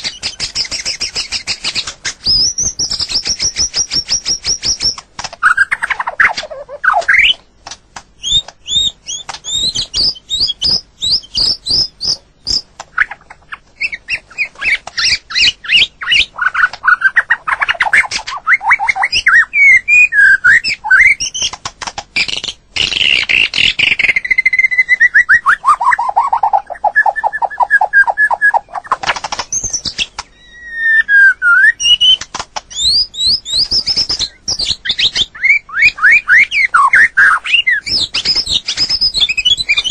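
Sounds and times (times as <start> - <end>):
bird singing whistled notes: 0.0 - 7.4, 8.2 - 21.6, 22.2 - 39.9.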